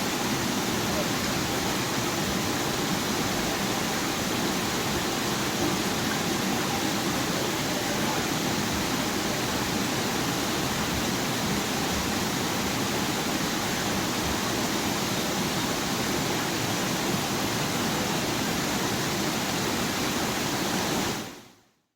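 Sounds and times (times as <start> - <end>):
water rushing down a waterfall: 0.0 - 21.6.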